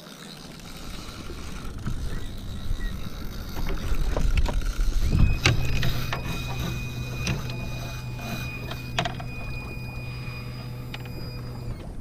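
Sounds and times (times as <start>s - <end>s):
fishing reel whirr: 0.0s - 12.0s.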